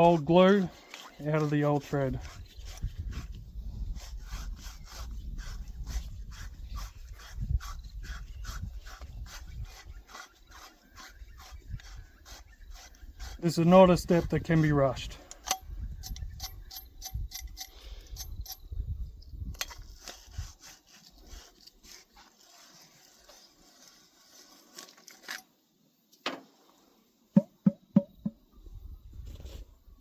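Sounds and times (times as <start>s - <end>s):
small tool scraping metal thread: 0.0s - 18.8s, 19.5s - 25.5s.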